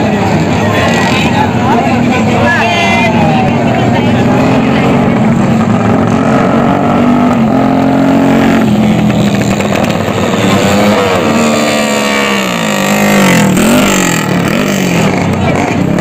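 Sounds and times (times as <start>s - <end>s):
small motorcycle engines revving: 0.0s - 16.0s.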